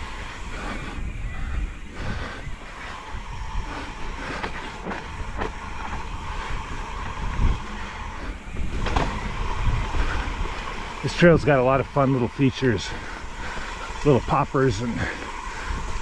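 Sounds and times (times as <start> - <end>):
bike rattling over bumps: 0.0 - 16.0
bike tyre rumble on dirt: 0.0 - 16.0
wind on microphone: 0.0 - 16.0.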